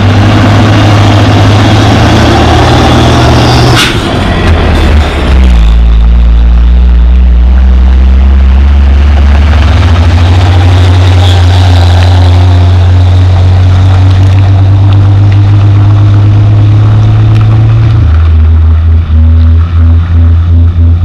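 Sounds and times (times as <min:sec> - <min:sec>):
diesel truck engine labouring: 0:00.0 - 0:21.0.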